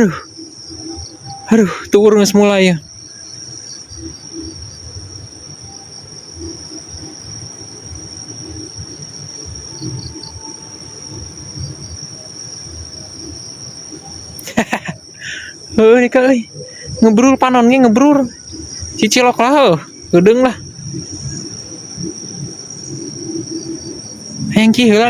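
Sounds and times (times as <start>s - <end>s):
night insects chirring: 0.0s - 25.0s.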